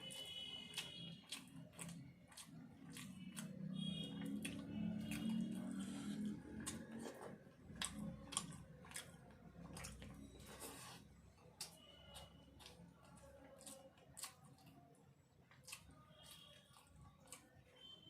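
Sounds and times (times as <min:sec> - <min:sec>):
chewing and lip-smacking: 0:00.0 - 0:18.0.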